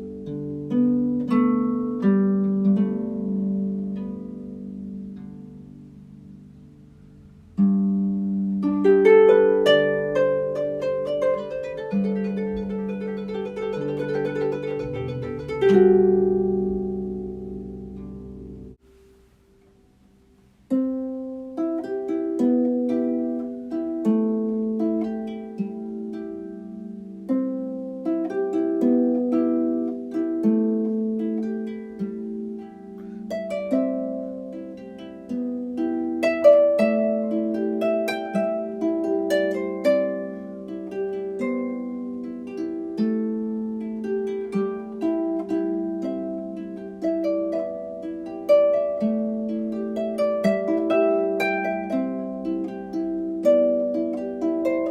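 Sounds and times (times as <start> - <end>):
harp music: 0.0 - 54.9.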